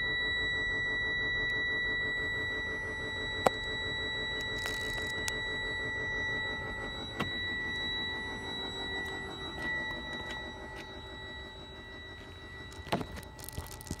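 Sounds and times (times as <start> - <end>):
high-pitched electronic warning tone: 0.0 - 14.0.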